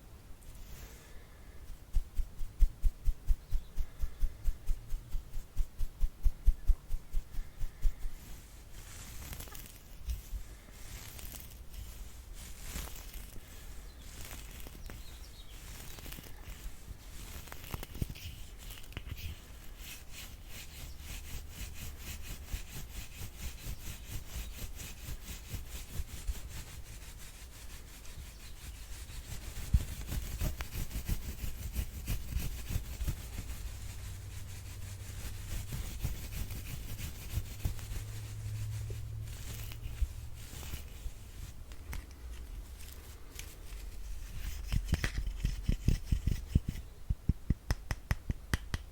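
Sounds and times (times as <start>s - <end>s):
brush bristles scratchy swishing: 0.6s - 46.9s.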